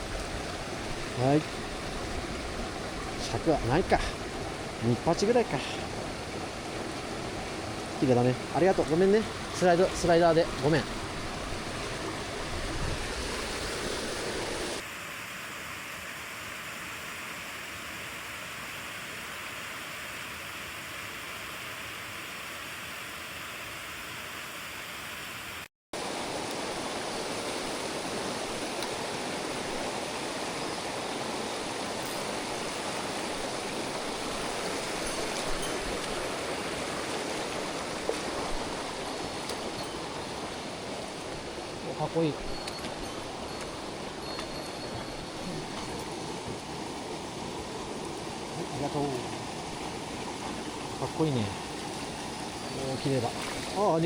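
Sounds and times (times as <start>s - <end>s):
mountain stream water rushing: 0.0s - 54.0s.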